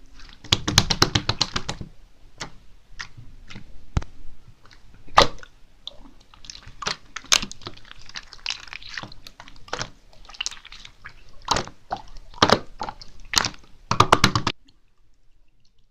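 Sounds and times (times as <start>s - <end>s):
slime squelching and popping: 0.1s - 14.6s.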